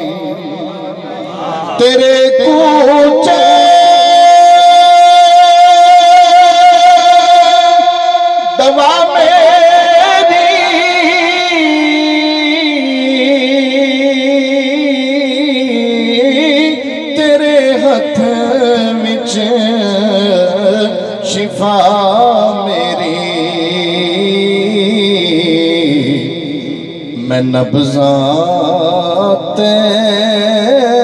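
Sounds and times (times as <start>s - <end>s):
man singing into a microphone: 0.0s - 31.0s.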